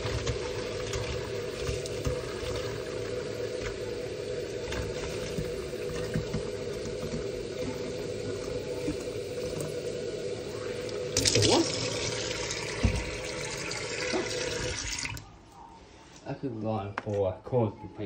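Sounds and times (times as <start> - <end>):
tap water filling plastic bottle: 0.0 - 10.1, 10.8 - 15.2.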